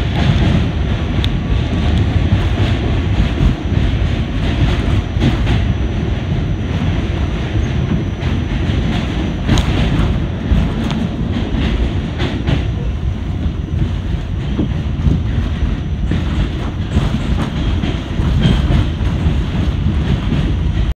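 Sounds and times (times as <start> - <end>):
subway train rumbling on rails: 0.0 - 21.0
track clacks: 0.0 - 21.0.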